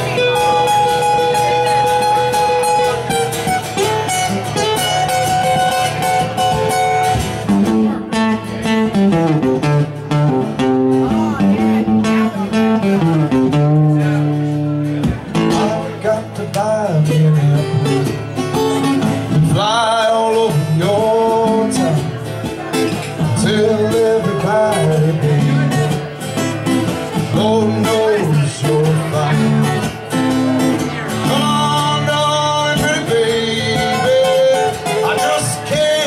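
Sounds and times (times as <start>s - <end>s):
acoustic guitars playing: 0.0s - 36.0s.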